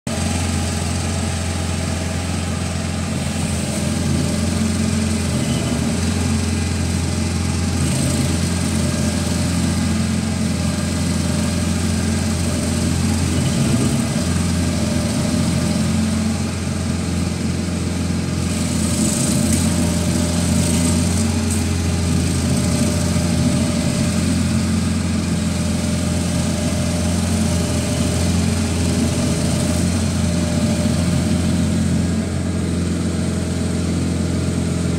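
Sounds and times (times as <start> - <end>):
stump grinder engine running: 0.1 - 34.9.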